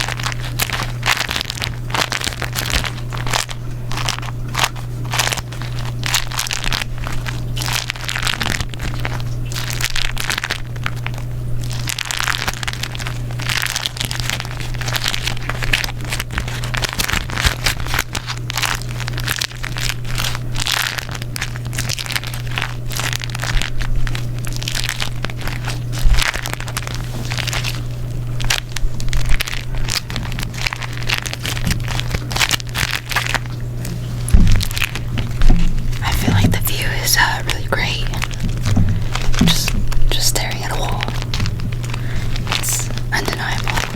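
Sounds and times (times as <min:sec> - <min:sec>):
steady low hum: 0:00.0 - 0:43.9
wax wrap crinkling: 0:00.0 - 0:43.9.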